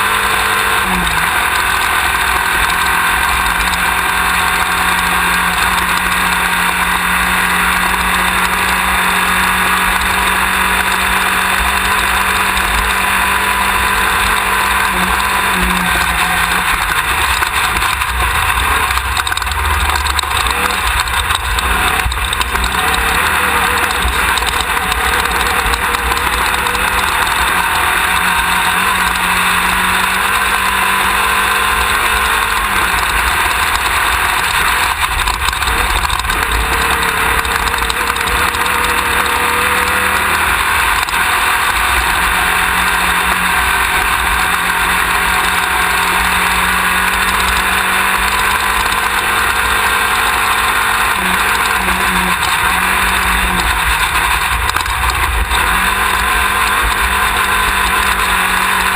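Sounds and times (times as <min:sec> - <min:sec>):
buggy engine running: 0:00.0 - 0:58.9.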